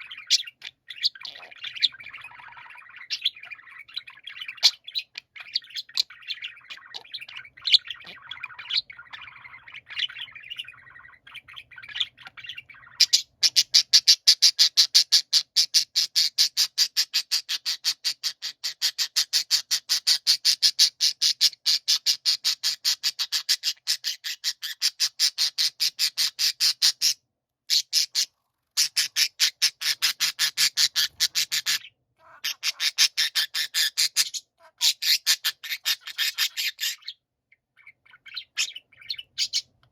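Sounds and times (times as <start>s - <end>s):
fast grating bird call: 0.0s - 37.2s
budgerigars chattering and warbling: 0.0s - 39.9s.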